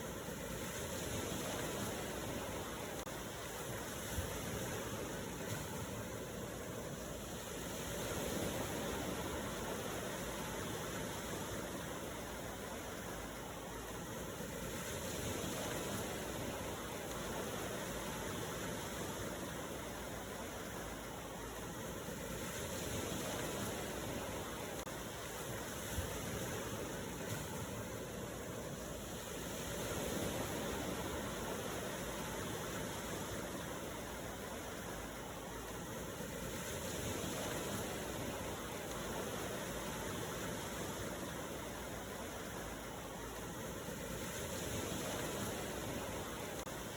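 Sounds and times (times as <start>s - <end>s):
ocean waves: 0.0s - 46.9s.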